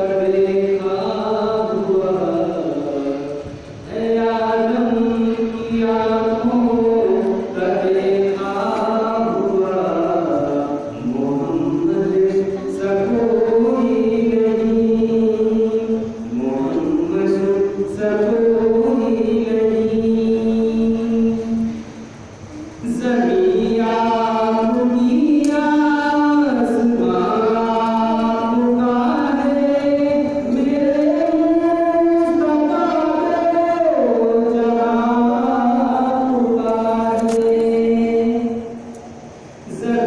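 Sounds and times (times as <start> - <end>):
man singing unaccompanied: 0.0 - 40.0.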